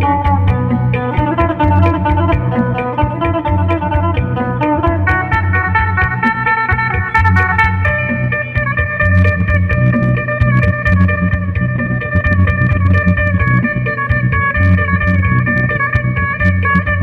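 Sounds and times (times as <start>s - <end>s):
electric lute plucked melody: 0.0s - 17.0s
low pulsing bass: 0.0s - 17.0s.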